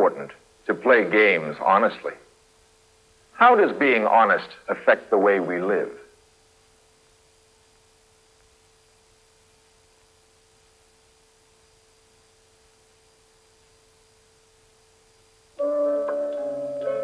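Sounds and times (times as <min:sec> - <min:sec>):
faint steady tone: 0:00.0 - 0:17.0
tape hiss: 0:00.0 - 0:17.0.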